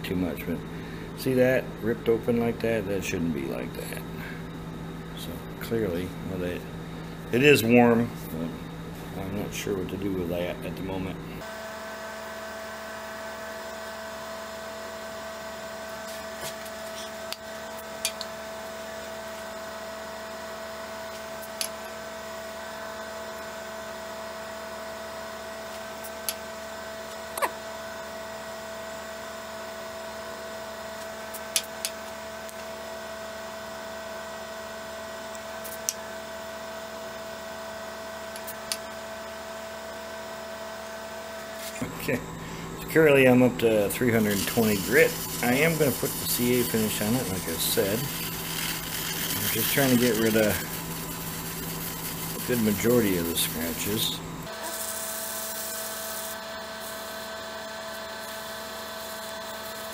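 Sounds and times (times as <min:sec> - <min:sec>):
lathe motor humming: 0:00.5 - 0:59.9.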